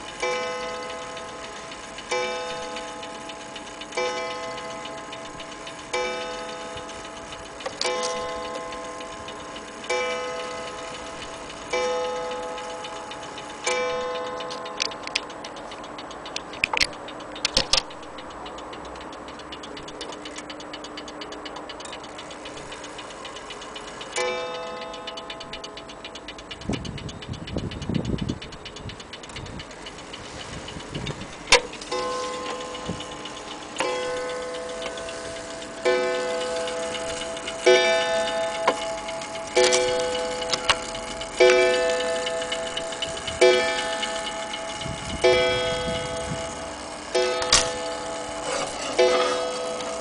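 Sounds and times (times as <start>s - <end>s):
clock ticking: 0.0s - 50.0s
mantel clock striking: 0.0s - 50.0s
sharp handling clicks: 0.0s - 50.0s.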